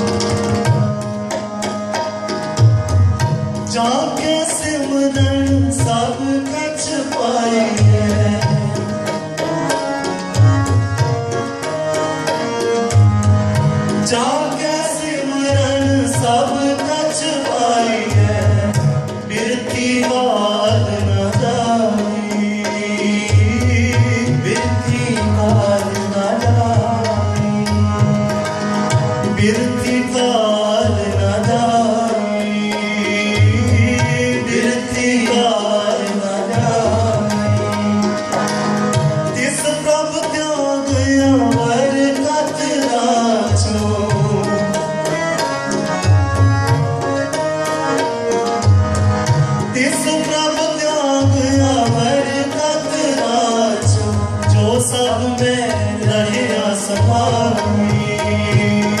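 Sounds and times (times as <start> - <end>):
harmonium chords: 0.0 - 59.0
tabla playing a rhythm: 0.0 - 59.0.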